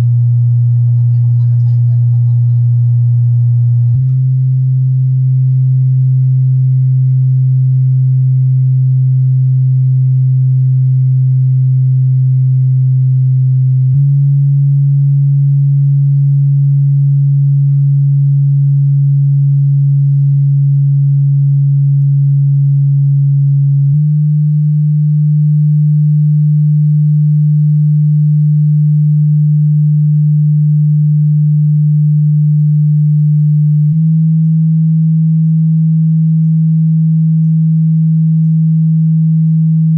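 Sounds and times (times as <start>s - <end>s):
subwoofer bass test tones: 0.0s - 39.9s.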